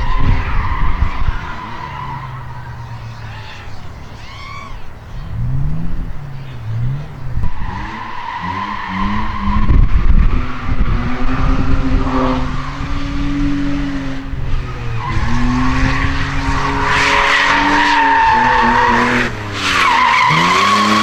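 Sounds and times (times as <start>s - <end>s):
tyres squealing: 0.0s - 9.8s, 10.6s - 21.0s
car engine revving: 0.0s - 21.0s.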